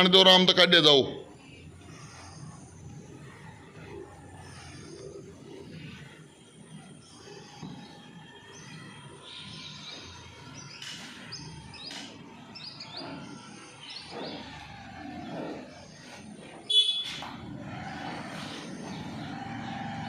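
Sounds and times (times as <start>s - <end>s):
small birds chirping: 1.3s - 20.0s.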